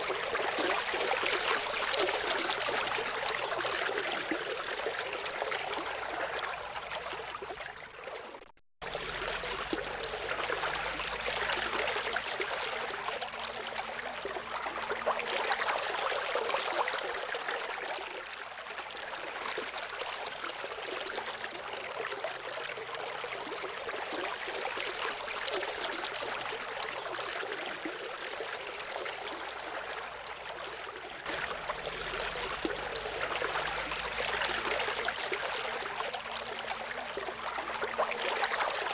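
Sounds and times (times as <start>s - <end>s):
steady rushing water-like noise: 0.0s - 8.0s, 8.9s - 38.9s.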